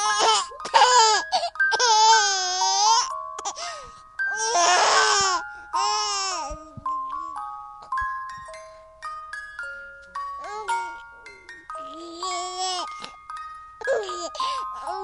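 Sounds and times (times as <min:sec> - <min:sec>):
soft bell-like music: 0:00.0 - 0:15.0.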